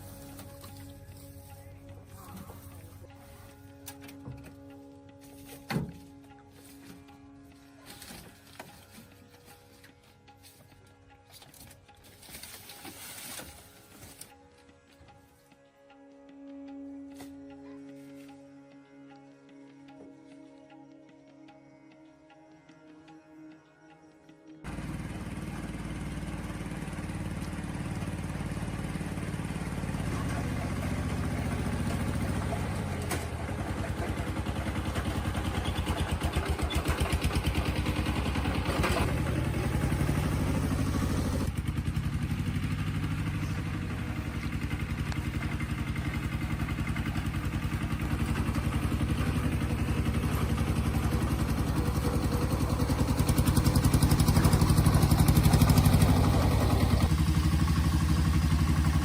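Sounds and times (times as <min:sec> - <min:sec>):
engine running with pulsing beat: 0:00.0 - 0:23.2, 0:24.3 - 0:59.0.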